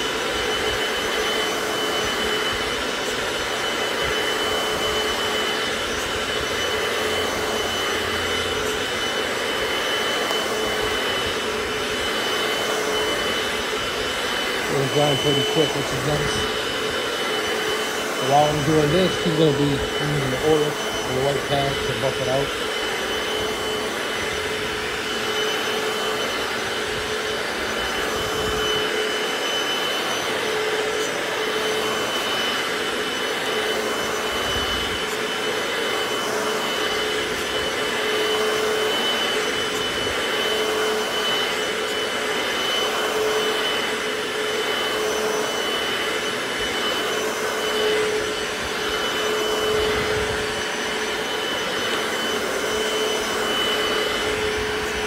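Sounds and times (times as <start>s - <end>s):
floor cleaner motor whine: 0.0s - 55.0s.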